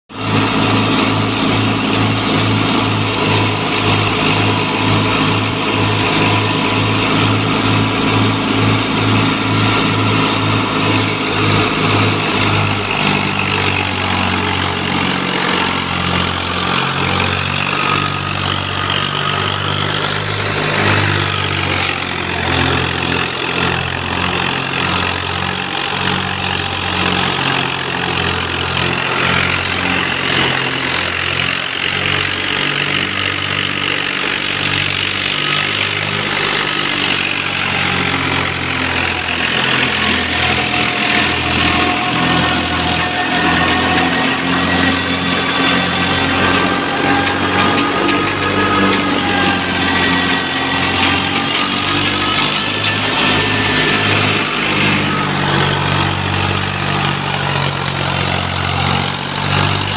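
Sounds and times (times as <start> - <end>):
thresher drum and fans churning: 0.1 - 59.9
tractor diesel engine running: 0.1 - 59.9.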